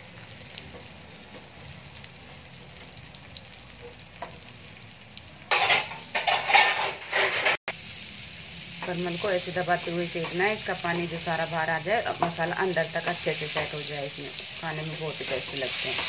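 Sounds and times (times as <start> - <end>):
spatula turning food in pan: 0.0 - 16.0
vegetables sizzling in hot oil: 0.0 - 16.0.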